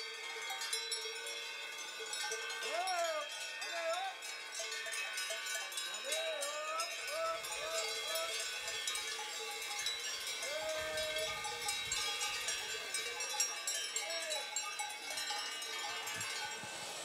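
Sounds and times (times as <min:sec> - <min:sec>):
cowbells clanging: 0:00.0 - 0:17.0.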